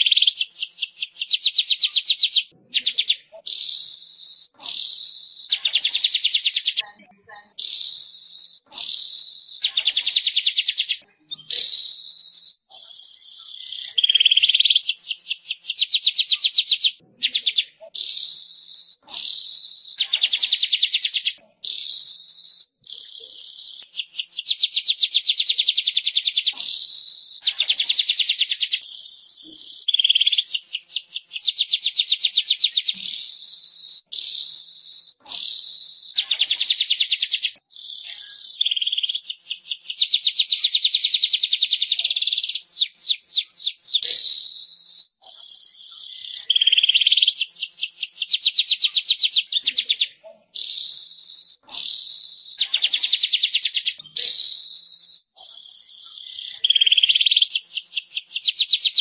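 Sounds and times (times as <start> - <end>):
weaver bird chattering song: 0.0 - 6.9, 7.6 - 59.0.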